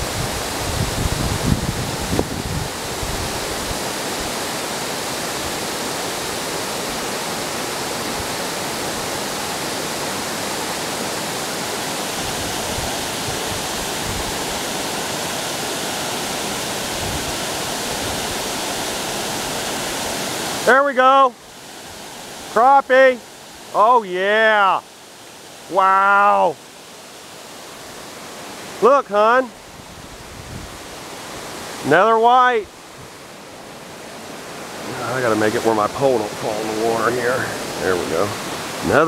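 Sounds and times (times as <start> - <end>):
water rushing over dam: 0.0 - 39.0.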